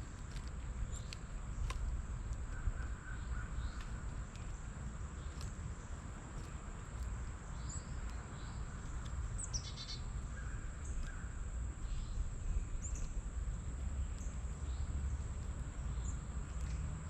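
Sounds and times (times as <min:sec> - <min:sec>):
steady low rumble: 0:00.0 - 0:16.9
birds chirping: 0:00.0 - 0:17.0.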